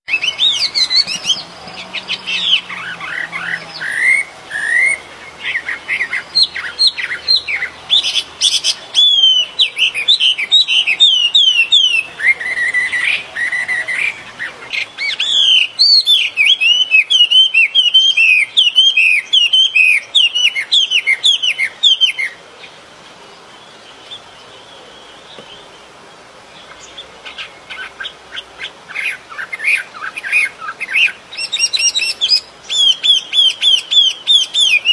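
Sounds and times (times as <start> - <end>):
songbird chirping: 0.0 - 34.9.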